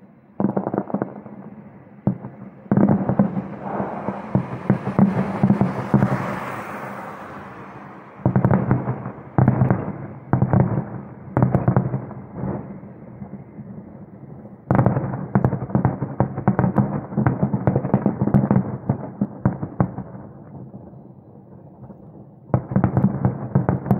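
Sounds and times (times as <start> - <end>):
distant fireworks bursting: 0.4 - 13.9, 14.7 - 20.8.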